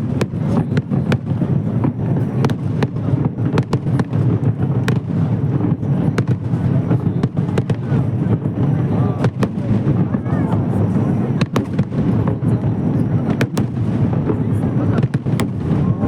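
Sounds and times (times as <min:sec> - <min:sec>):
fireworks bursts and cracks: 0:00.0 - 0:16.0.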